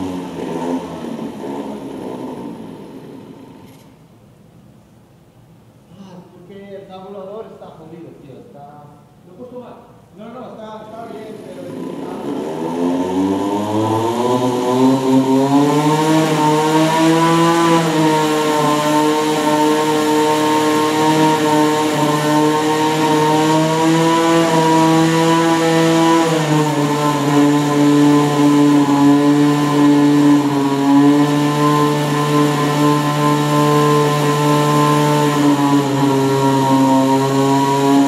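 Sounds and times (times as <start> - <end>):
small engine droning: 0.0 - 4.2, 10.8 - 38.0.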